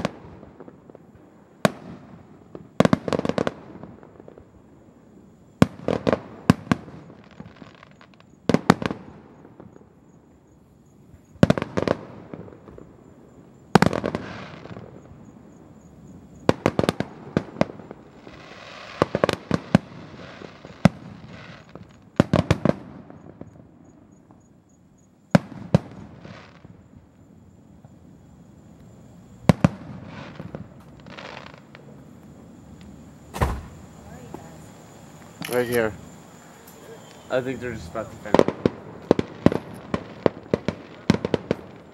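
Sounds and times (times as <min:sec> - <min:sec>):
fireworks crackling: 0:00.0 - 0:10.0, 0:11.2 - 0:24.5, 0:25.3 - 0:41.9
fireworks bursting with echoing rumble: 0:00.0 - 0:10.2, 0:11.3 - 0:24.6, 0:25.3 - 0:27.1, 0:29.3 - 0:41.9.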